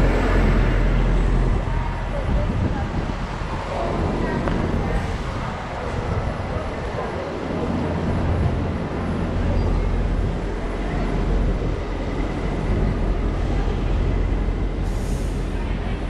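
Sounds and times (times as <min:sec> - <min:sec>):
city road noise hiss: 0:00.0 - 0:16.0
vehicle engines rumbling: 0:00.0 - 0:16.0.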